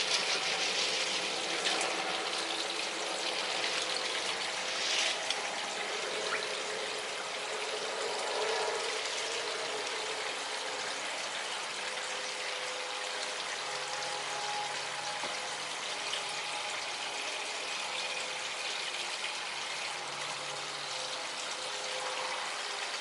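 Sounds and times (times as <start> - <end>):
waterfall splashing into pond: 0.0 - 23.0.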